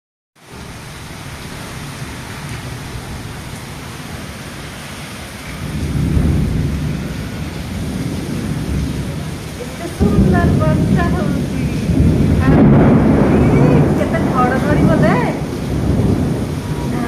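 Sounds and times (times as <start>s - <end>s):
heavy rain falling: 0.4s - 17.0s.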